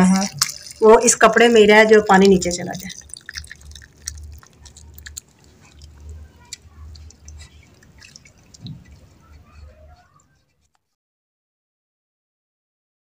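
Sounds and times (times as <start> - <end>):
liquid splashing and dripping: 0.0 - 10.4.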